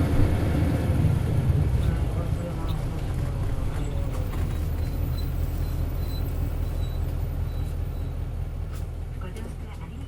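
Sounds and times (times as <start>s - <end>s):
diesel bus engine running: 0.0s - 10.0s.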